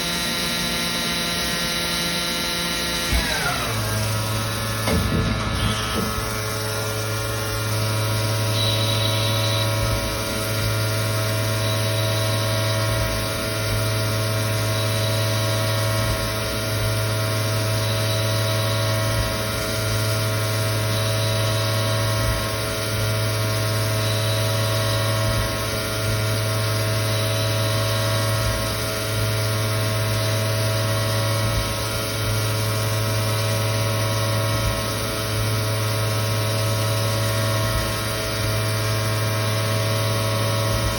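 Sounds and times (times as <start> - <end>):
lathe machine hum: 0.0 - 40.9.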